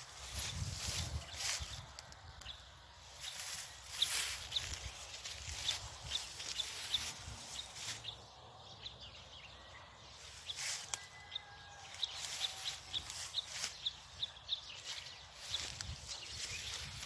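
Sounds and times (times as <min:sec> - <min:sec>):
bird chirping: 0:00.9 - 0:17.0.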